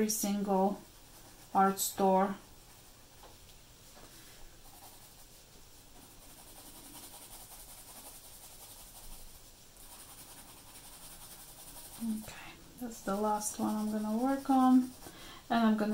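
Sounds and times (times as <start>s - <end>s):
pencil scratching on paper: 0.0s - 3.2s, 4.6s - 15.9s.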